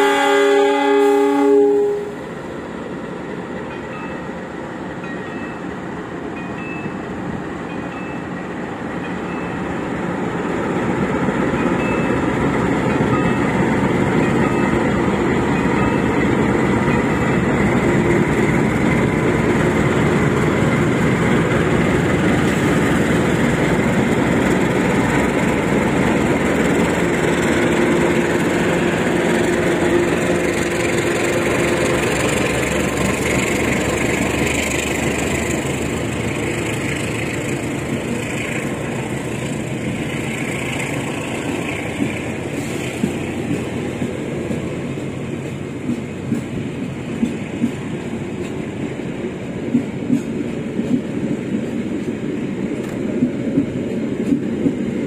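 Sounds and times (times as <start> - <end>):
diesel locomotive engine: 0.0 - 55.0
train wheels rumbling on rails: 0.0 - 55.0.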